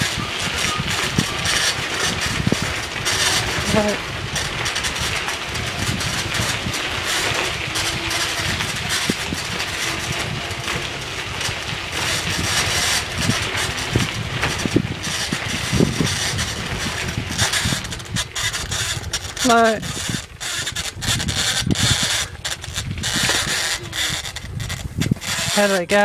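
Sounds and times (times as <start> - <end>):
bicycle tyres on gravel: 0.0 - 26.0.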